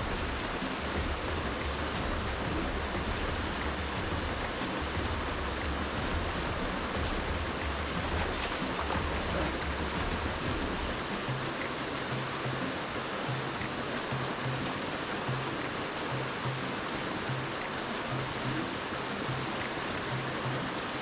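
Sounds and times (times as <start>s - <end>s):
water falling over rocks: 0.0s - 21.0s.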